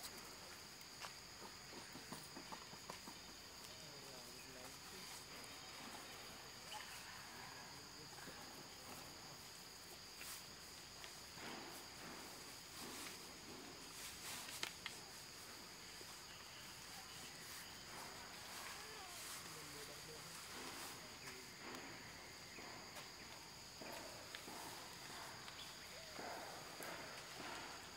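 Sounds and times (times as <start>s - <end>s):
insects droning: 0.0s - 27.9s.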